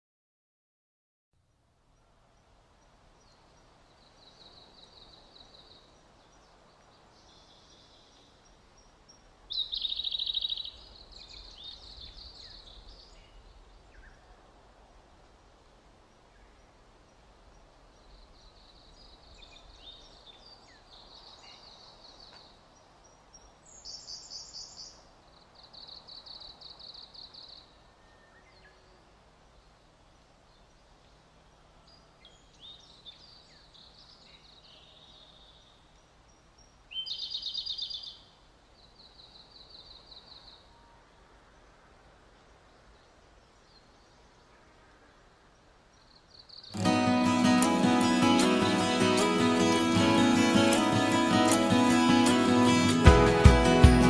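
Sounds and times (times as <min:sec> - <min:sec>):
faint steady hiss: 0:01.4 - 0:54.0
songbirds chirping and trilling: 0:01.9 - 0:54.0.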